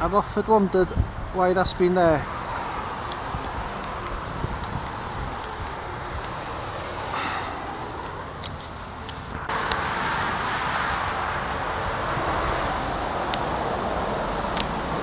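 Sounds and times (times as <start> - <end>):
steady traffic noise: 0.0 - 15.0.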